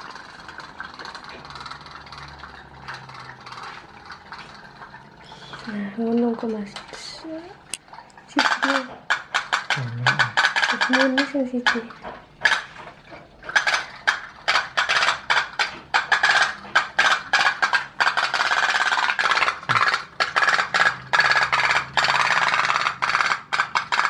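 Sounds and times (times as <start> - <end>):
pop-pop boat engines clicking: 0.0 - 24.0.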